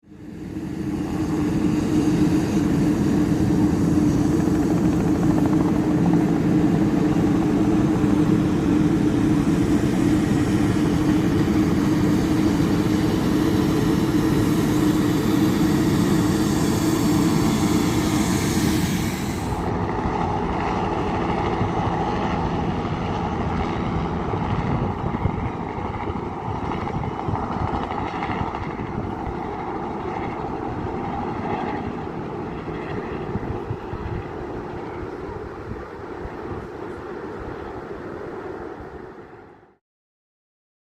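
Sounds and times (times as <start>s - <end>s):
helicopter turbine and rotors: 0.0s - 39.8s.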